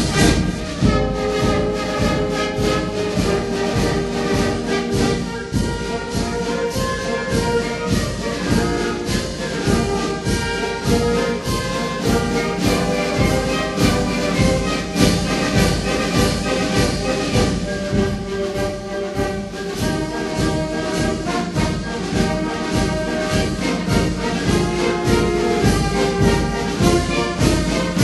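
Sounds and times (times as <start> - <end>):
orchestral music with brass: 0.0 - 28.0.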